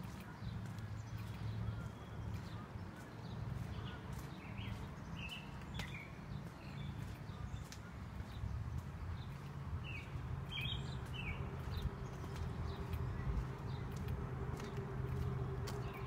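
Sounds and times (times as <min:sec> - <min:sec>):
bird chirps: 0:00.0 - 0:08.5, 0:09.2 - 0:16.0
footsteps on concrete: 0:00.0 - 0:16.0.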